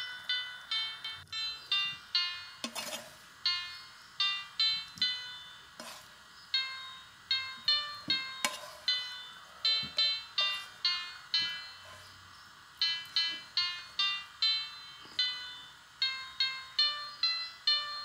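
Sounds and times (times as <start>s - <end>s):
light bright melody: 0.0s - 18.0s.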